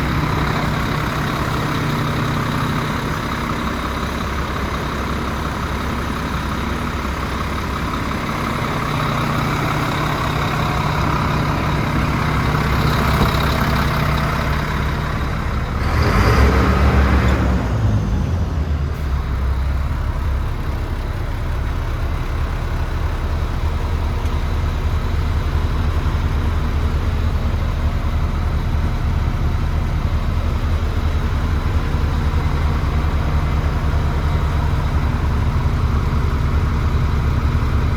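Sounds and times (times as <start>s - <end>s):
diesel truck engine idling: 0.0s - 37.9s.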